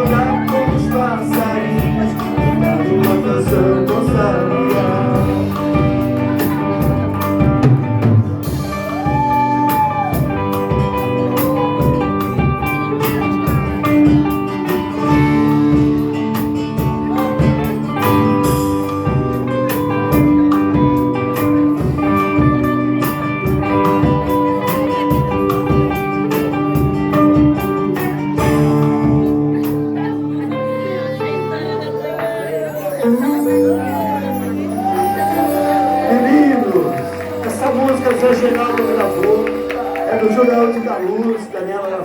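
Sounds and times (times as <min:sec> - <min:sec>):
live band with guitar and drums: 0:00.0 - 0:42.0.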